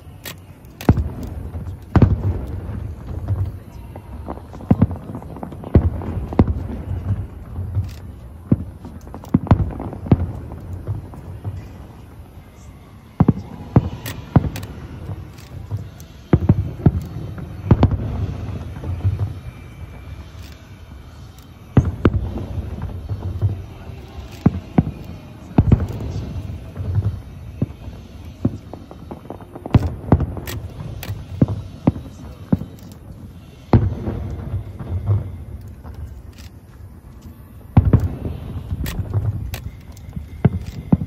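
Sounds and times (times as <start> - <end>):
firework shells bursting: 0.0 - 12.3, 13.2 - 41.0.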